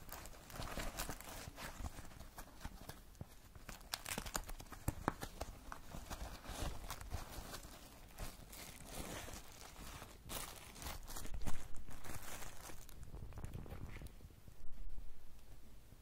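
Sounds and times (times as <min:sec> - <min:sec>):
plastic packaging rustling: 0:00.0 - 0:14.3.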